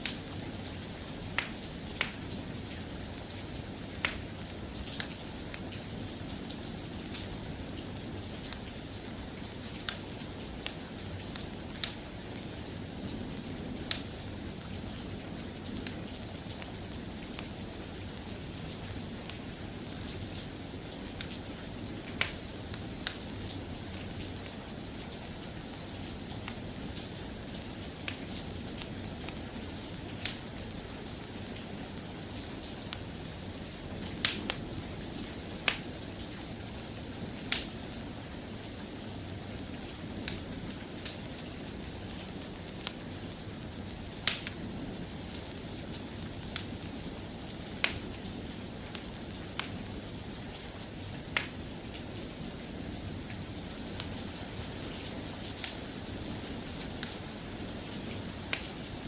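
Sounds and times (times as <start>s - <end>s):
soft steady rain: 0.0s - 59.0s.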